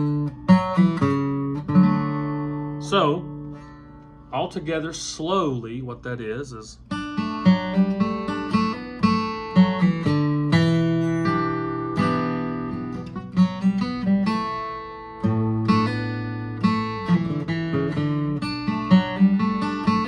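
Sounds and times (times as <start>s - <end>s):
acoustic guitar flatpicking: 0.0s - 20.0s
strummed guitar chords: 0.0s - 20.0s.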